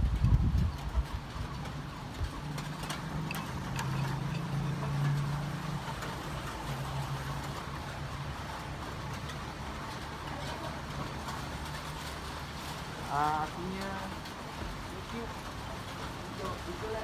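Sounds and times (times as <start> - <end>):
raindrops tapping: 0.0 - 17.0.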